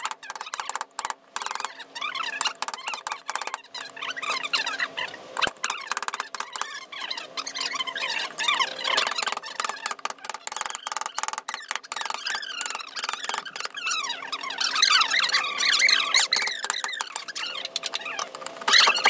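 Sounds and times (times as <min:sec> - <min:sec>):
squeaky scraping of blade: 0:00.0 - 0:19.0.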